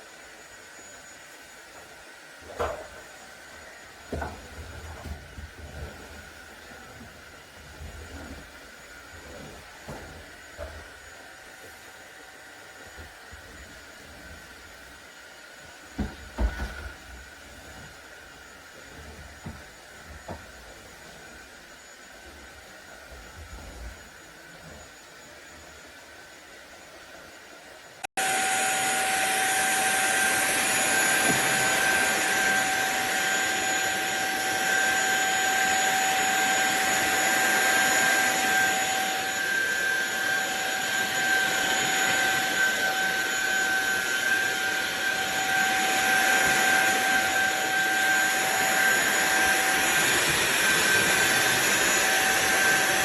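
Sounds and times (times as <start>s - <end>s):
vacuum cleaner motor whining: 0.0s - 53.0s.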